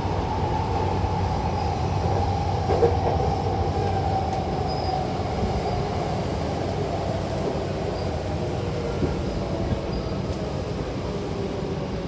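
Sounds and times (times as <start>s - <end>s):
electric train rumbling on track: 0.0s - 12.0s.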